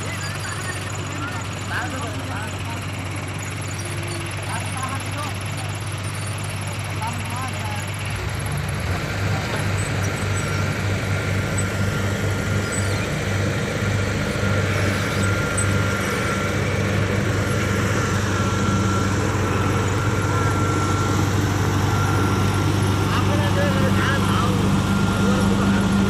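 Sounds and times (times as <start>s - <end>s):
heavy engine running: 0.0s - 26.0s.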